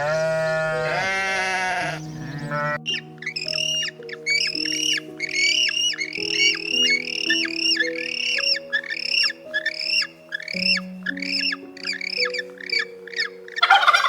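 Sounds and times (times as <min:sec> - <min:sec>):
animal calls: 0:00.0 - 0:14.0
background music: 0:00.0 - 0:14.0.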